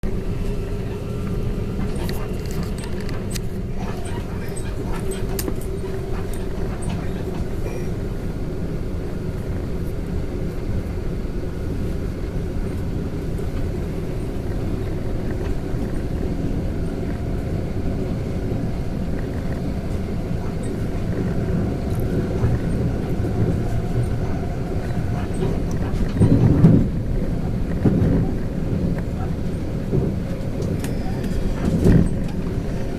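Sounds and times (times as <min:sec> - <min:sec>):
train rumbling inside carriage: 0:00.0 - 0:32.9.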